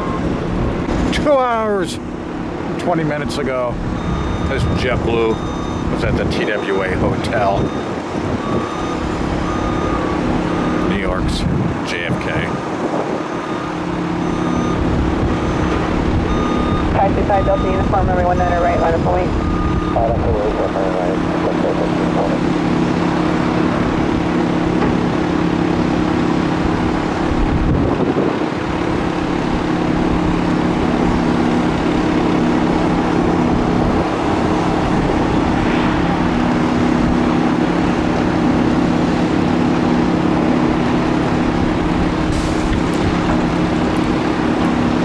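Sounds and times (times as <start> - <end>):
constant low hum: 0.0 - 45.0
mechanical drone: 7.0 - 45.0.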